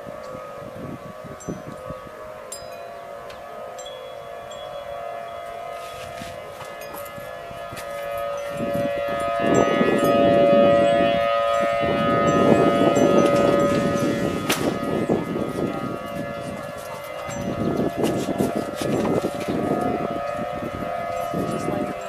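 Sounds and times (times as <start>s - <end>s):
warning siren steady tone: 0.0s - 22.0s
wind rumbling on microphone: 0.0s - 22.0s.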